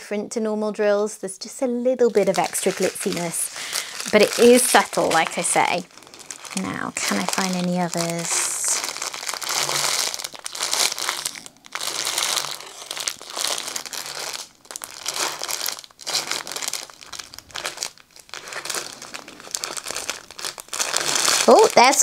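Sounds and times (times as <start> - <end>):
plastic bags crinkling: 2.0 - 22.0.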